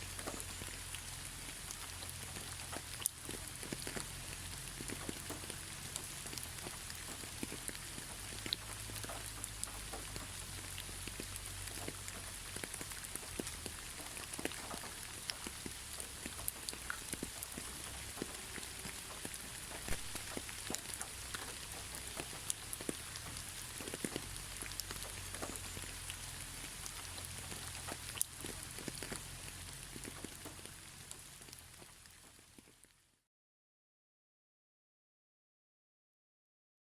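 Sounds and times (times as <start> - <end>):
raindrops ticking: 0.0 - 33.0
steady gentle rain: 0.0 - 33.3.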